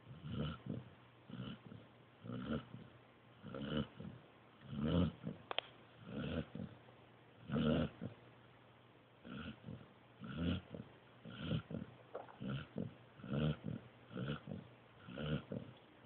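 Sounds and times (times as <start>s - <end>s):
puppy snoring: 0.0s - 6.8s, 7.4s - 8.2s, 9.2s - 15.8s.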